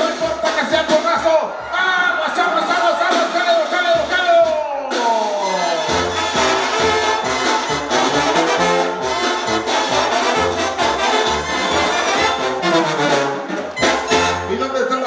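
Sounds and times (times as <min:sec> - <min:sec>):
brass band music: 0:00.0 - 0:04.3, 0:04.9 - 0:15.0.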